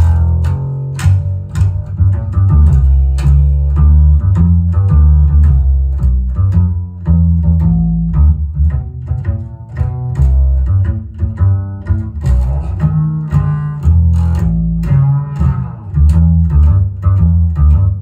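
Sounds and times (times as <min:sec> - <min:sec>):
plucked double bass: 0:00.0 - 0:18.0.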